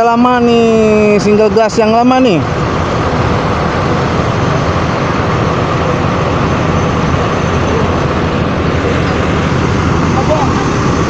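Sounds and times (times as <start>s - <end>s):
diesel bus engine idling: 0.0s - 11.0s.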